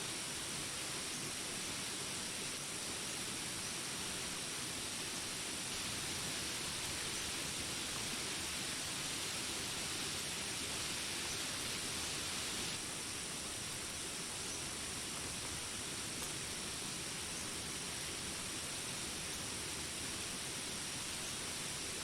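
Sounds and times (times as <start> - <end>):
steady rain falling: 0.1 - 22.0.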